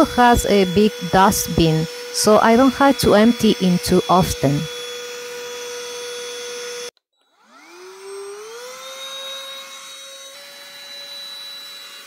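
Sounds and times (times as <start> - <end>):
handheld vacuum running: 0.0 - 12.0.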